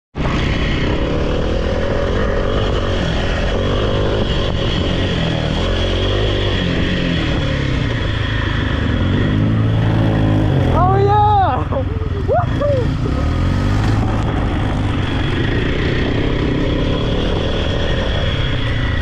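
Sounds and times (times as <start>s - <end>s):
off-road vehicle engine running: 0.2s - 19.0s.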